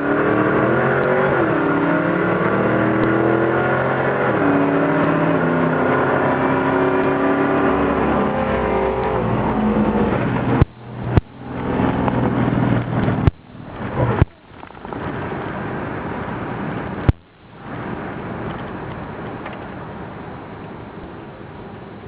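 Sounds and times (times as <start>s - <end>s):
engine pulling hard: 0.0s - 19.4s
road and wind noise: 0.0s - 22.0s.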